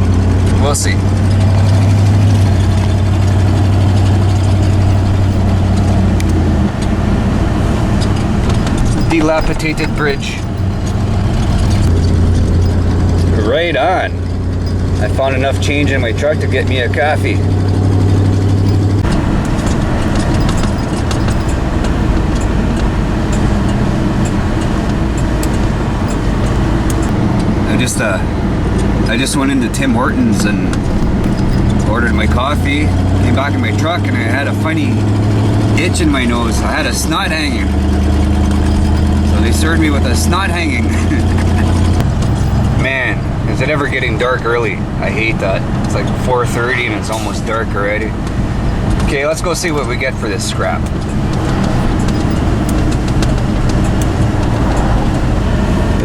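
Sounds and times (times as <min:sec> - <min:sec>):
road noise: 0:00.0 - 0:56.0
truck engine drone in cab: 0:00.0 - 0:56.0.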